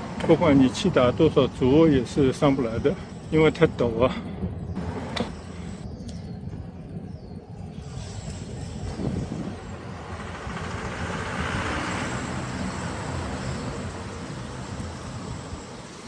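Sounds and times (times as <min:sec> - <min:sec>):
bicycle riding rumble: 0:00.0 - 0:16.0
wind hiss: 0:00.0 - 0:16.0.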